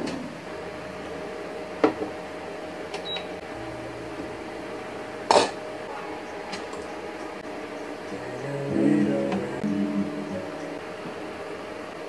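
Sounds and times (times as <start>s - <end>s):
cooktop humming: 0.0s - 12.0s.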